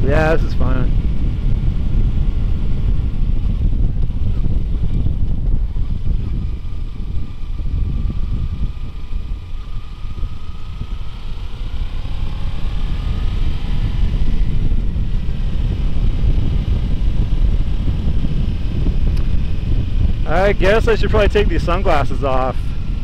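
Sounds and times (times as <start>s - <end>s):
motorcycle engine at speed: 0.0s - 23.0s
wind rumble on microphone: 0.0s - 23.0s.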